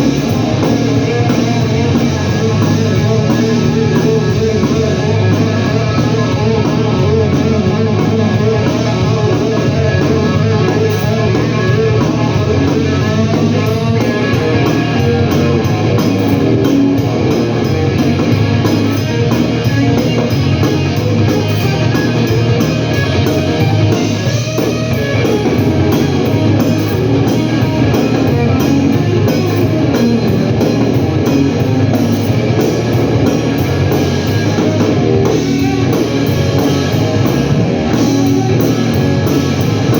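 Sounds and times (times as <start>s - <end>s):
live blues-rock band playing: 0.0s - 39.9s
loud electric guitar: 0.0s - 39.9s.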